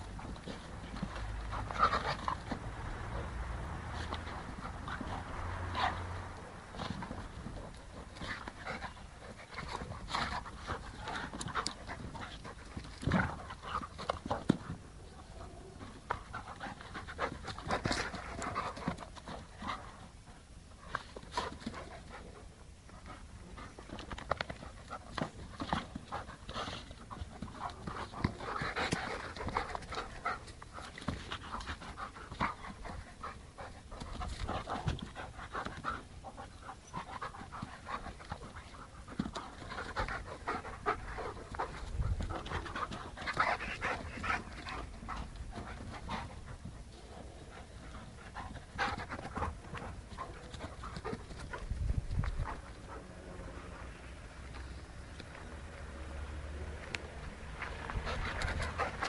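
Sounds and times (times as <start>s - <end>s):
dogs panting: 0.0s - 55.6s, 57.2s - 59.0s.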